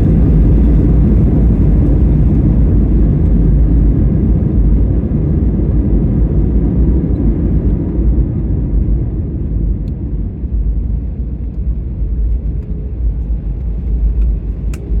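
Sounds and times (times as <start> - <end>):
airliner engine and airflow rumble: 0.0 - 15.0.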